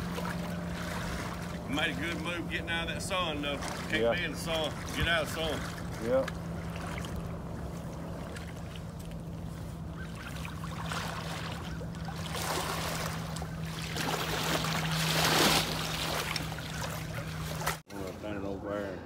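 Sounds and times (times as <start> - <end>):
water sloshing around wading legs: 0.0 - 18.2.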